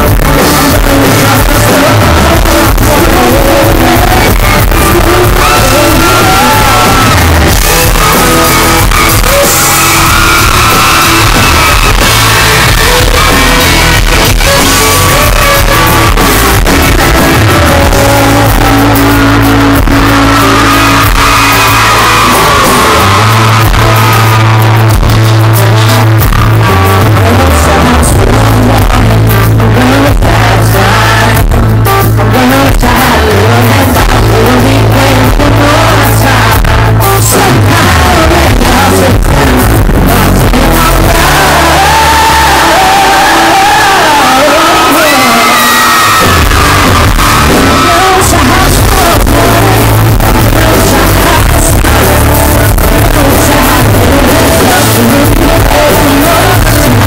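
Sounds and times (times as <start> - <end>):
live country-pop band: 0.0 - 57.0
man singing lead vocal: 0.0 - 57.0.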